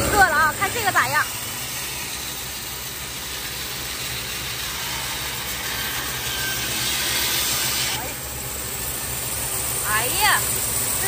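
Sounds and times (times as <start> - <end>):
band saw cutting wood: 0.0 - 11.0.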